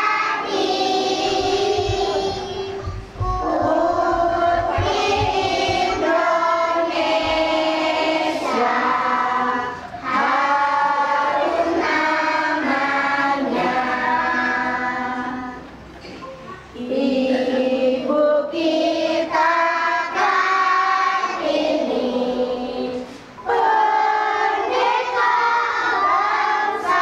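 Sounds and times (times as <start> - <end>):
children's choir singing: 0.0 - 27.0.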